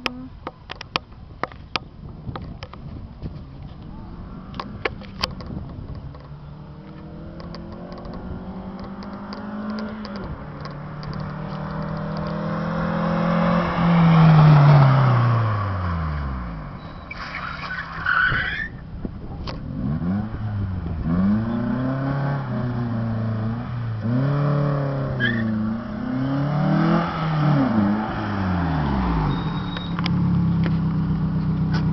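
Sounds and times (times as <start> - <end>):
car engine revving: 4.0 - 18.3, 19.4 - 31.9.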